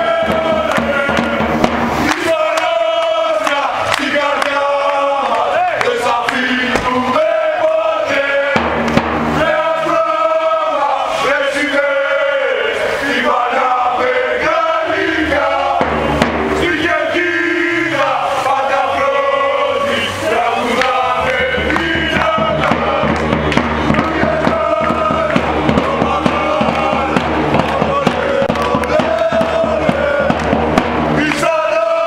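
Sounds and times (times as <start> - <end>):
men singing a football chant: 0.0 - 32.0.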